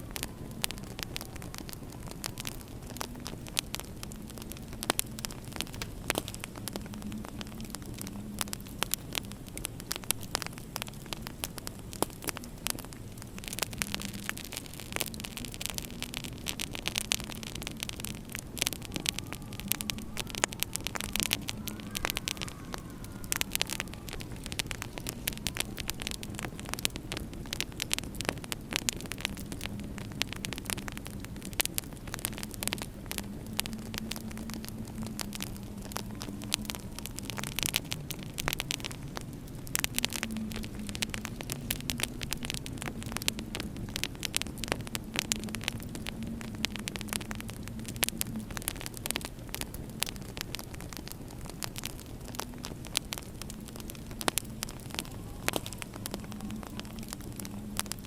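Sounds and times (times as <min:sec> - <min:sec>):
wind moaning: 0:00.0 - 0:58.0
wood fire crackling: 0:00.0 - 0:58.0.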